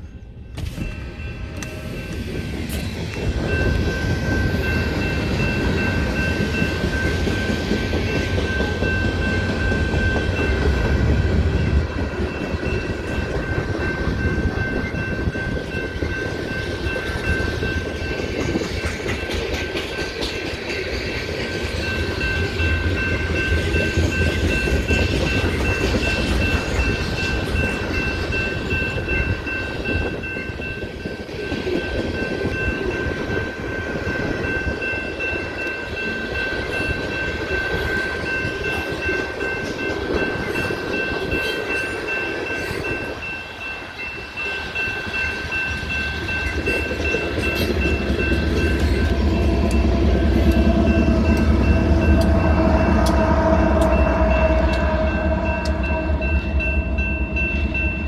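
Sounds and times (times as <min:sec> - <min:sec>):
crossing warning bell ringing: 0:00.0 - 0:58.0
train wheels clattering on rails: 0:00.0 - 0:58.0.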